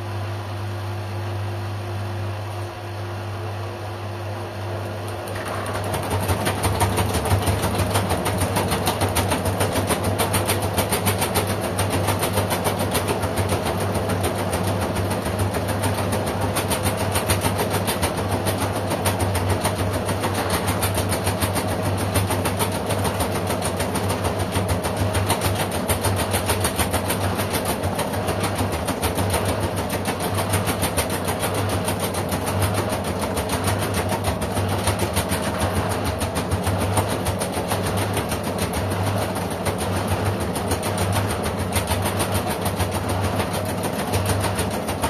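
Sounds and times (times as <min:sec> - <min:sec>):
washing machine running: 0:00.0 - 0:45.0.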